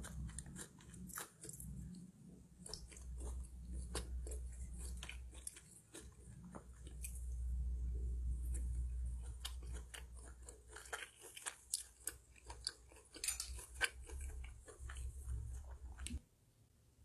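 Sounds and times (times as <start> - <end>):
person chewing crunchy food: 0.0 - 16.2.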